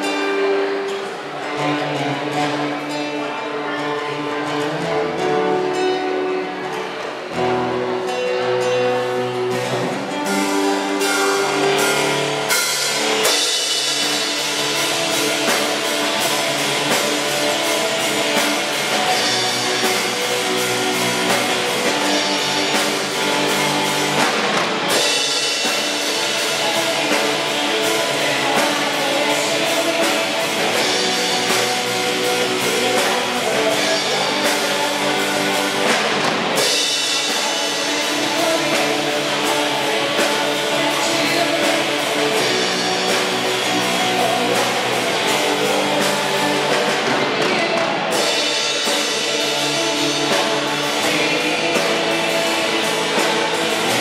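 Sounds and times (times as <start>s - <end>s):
guitars playing held notes: 0.0s - 54.0s
rock band playing: 0.0s - 54.0s
drums and cymbals: 4.5s - 54.0s.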